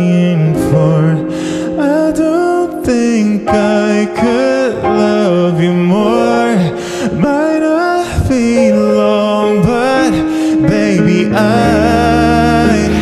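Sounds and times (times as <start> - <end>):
man singing slow melody: 0.0 - 13.0
soft sustained backing music: 0.0 - 13.0.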